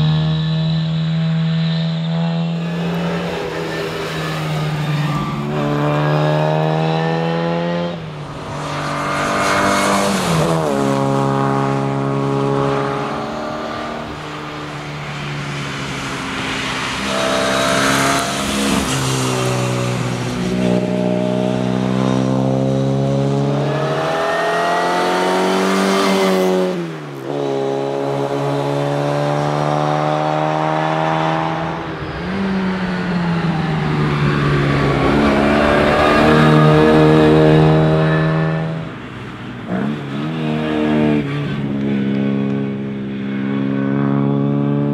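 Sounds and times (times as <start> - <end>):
car engine revving hard: 0.0 - 14.6, 15.6 - 38.9.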